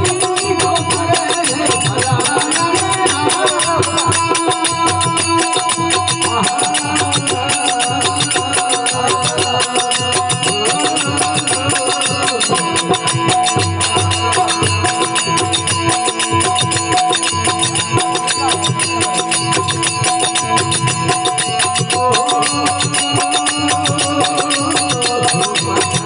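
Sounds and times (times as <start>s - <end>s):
fast percussive strokes: 0.0s - 26.0s.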